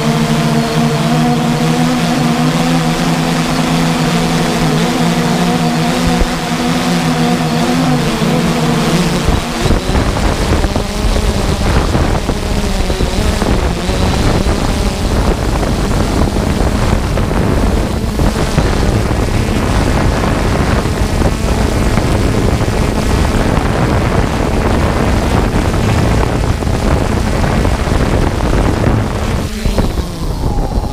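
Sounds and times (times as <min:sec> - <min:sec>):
drone propellers whirring: 0:00.0 - 0:30.9
wind buffeting microphone: 0:00.0 - 0:30.9.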